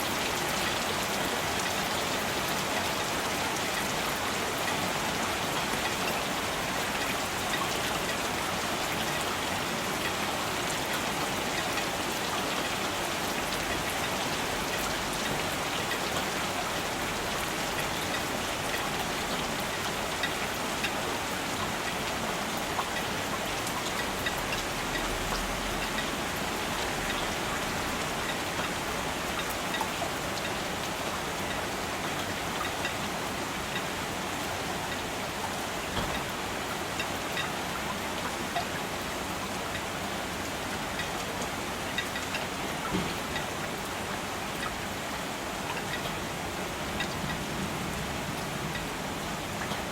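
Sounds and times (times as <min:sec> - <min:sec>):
raindrops ticking on surfaces: 0:00.0 - 0:49.9
steady rain falling: 0:00.0 - 0:49.9.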